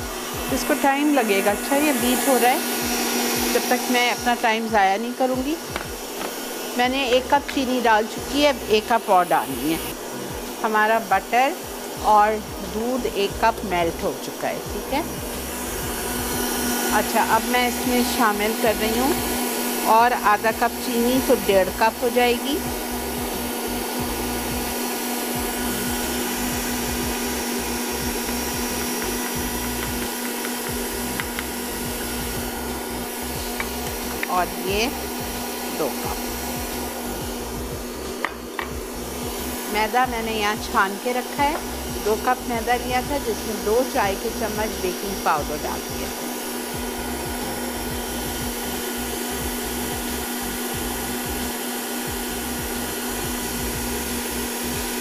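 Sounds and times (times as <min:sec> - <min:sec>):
stand mixer motor hum: 0:00.0 - 0:10.2, 0:14.7 - 0:55.0.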